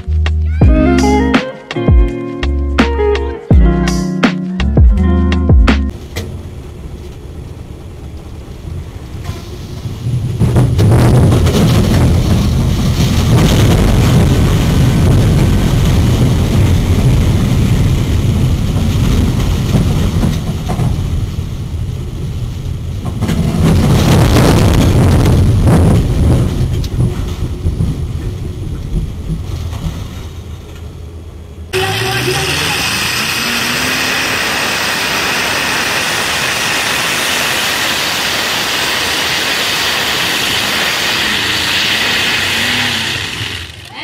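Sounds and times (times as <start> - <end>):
train rumbling: 5.6 - 44.0.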